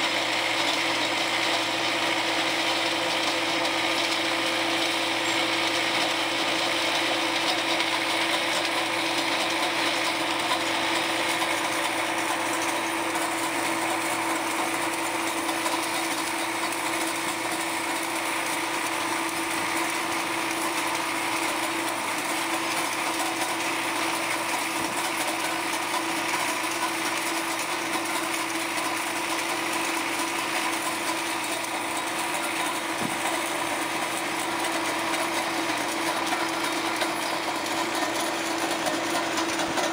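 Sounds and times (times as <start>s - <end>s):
ice cutter clattering and grinding: 0.0s - 39.9s
tractor diesel engine humming: 0.0s - 39.9s.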